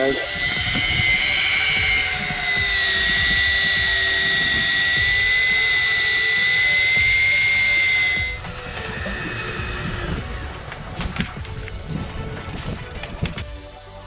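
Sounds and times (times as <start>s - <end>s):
fishing reel motor whining: 0.0s - 13.4s.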